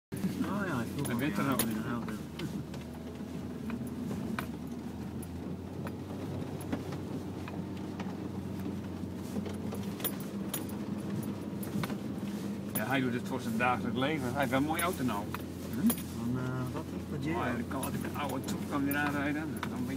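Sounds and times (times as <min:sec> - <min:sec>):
low engine and tyre drone: 0:00.1 - 0:19.9.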